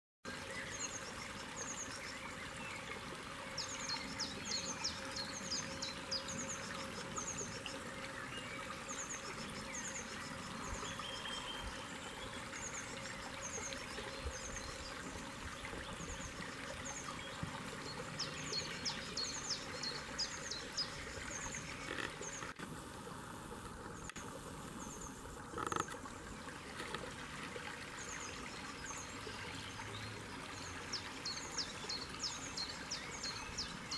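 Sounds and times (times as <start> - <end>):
stream trickling over stones: 0.2 - 33.9.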